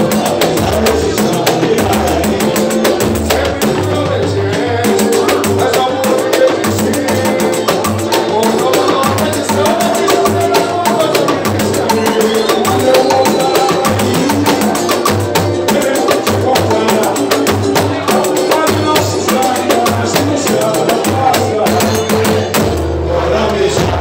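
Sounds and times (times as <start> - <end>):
samba music: 0.0 - 24.0.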